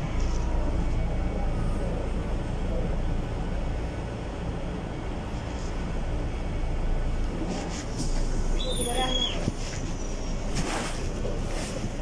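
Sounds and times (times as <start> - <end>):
bus diesel engine rumble: 0.0 - 12.0
road noise: 0.0 - 12.0.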